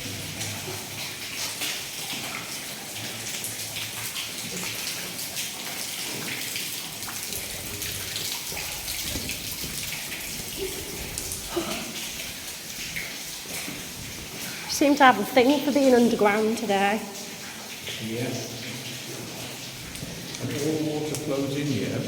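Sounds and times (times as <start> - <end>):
water trickling and splashing: 0.0 - 22.0.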